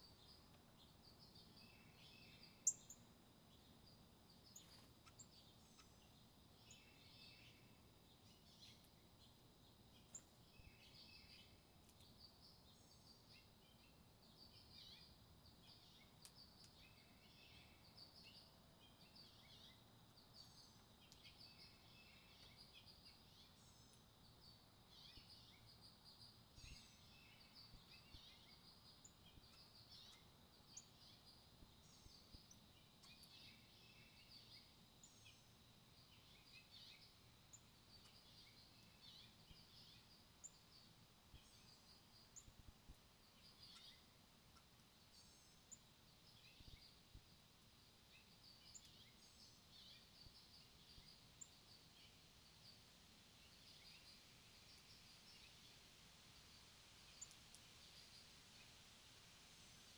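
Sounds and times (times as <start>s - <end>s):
songbirds chirping and calling: 0.0s - 58.8s
low outdoor background hiss: 0.0s - 59.9s.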